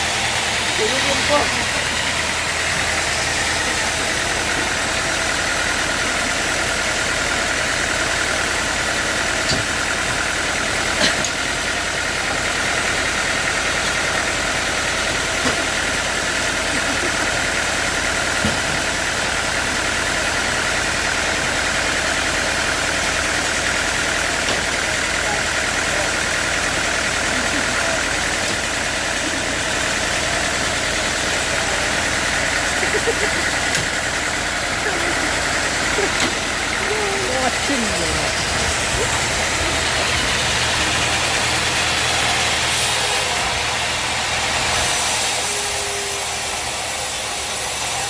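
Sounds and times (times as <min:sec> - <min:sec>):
sawmill machinery running: 0:00.0 - 0:48.0.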